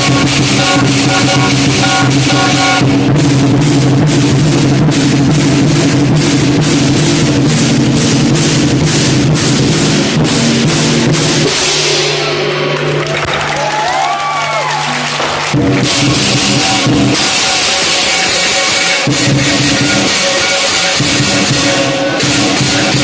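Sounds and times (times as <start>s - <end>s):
gong: 0.0s - 13.6s, 14.9s - 23.0s
cymbals clashing: 0.0s - 14.0s, 14.8s - 23.0s
large drum beating: 0.0s - 23.0s.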